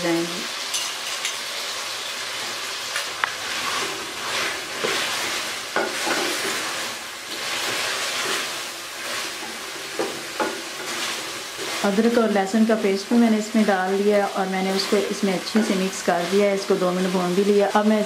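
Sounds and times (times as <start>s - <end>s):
chicken sizzling in a metal pot: 0.0s - 18.0s.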